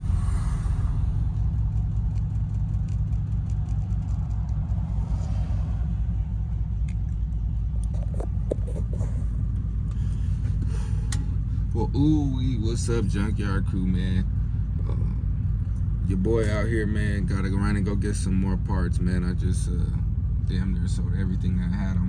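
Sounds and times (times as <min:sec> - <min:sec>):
vehicle rumble: 0:00.0 - 0:22.0.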